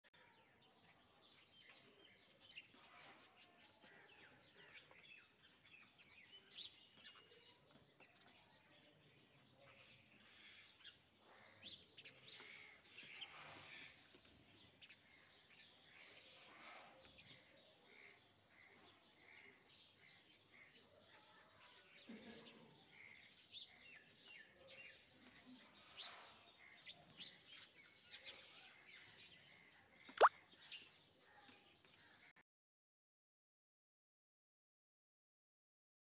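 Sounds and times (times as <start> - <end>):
small birds chirping: 0.1 - 32.4.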